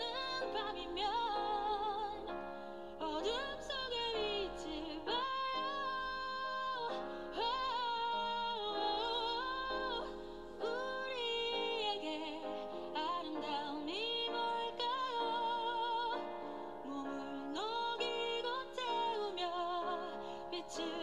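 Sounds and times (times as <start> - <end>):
woman singing slow ballad: 0.0 - 21.0.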